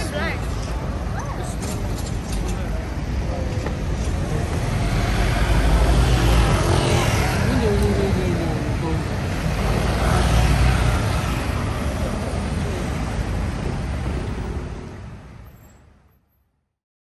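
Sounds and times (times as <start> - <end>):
road traffic: 0.0 - 16.8.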